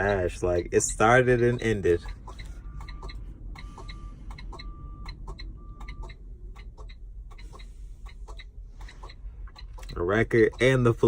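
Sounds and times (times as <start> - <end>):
low steady rumble: 0.0 - 11.0
rapid even ticking: 0.0 - 11.0.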